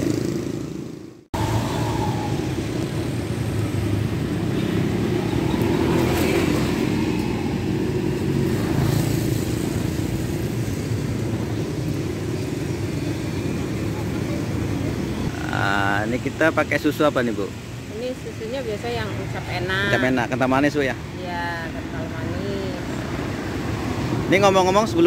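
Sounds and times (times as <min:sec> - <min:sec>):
cars and motorcycles passing: 0:00.0 - 0:25.0
street traffic rumble: 0:00.0 - 0:25.0.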